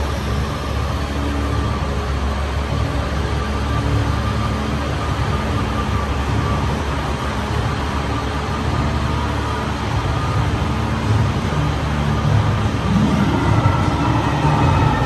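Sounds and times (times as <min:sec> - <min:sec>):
tram rumbling along: 0:00.0 - 0:15.0.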